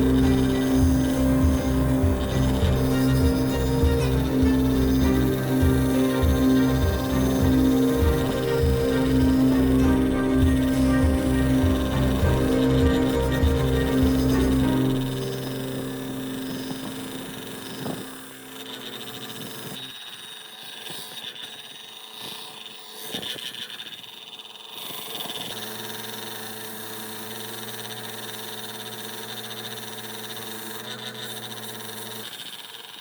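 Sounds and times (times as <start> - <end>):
small electric motor humming: 0.0 - 33.0.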